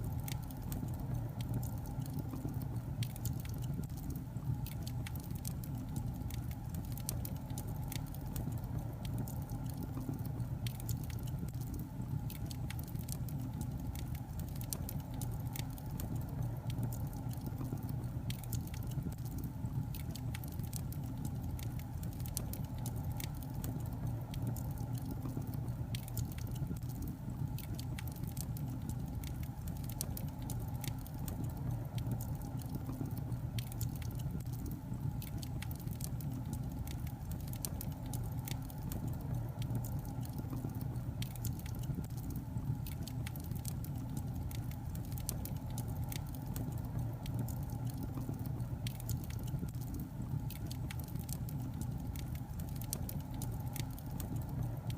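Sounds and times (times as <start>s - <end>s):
low rumble of fire: 0.0s - 54.9s
sharp pops and snaps: 0.0s - 54.9s
wood fire crackling: 0.0s - 54.9s.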